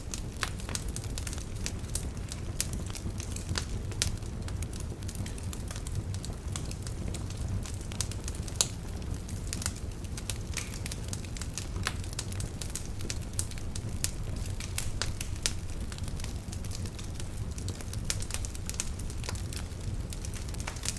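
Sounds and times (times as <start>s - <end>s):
fire popping and snapping: 0.0s - 20.9s
low fire rumble: 0.0s - 20.9s.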